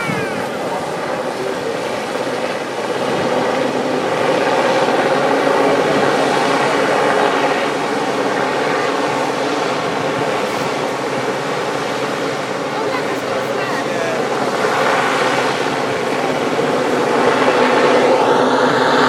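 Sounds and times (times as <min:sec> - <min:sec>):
helicopter hovering: 0:00.0 - 0:19.0.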